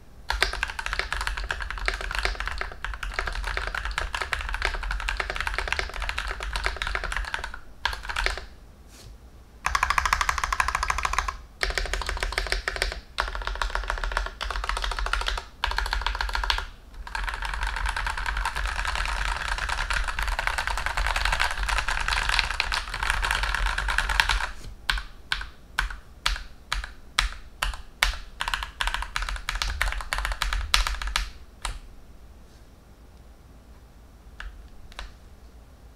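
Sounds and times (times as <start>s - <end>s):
mechanical keyboard typing: 0.3s - 8.5s, 9.6s - 31.8s.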